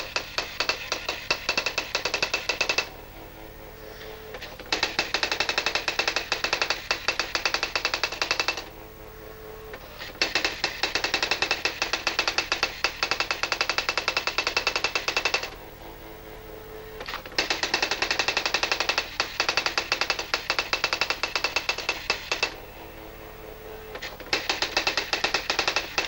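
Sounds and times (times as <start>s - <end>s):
electronic typewriter printing: 0.0s - 3.0s, 4.0s - 8.8s, 9.6s - 15.7s, 16.9s - 22.7s, 23.9s - 26.0s
faint steady hum: 0.0s - 26.0s.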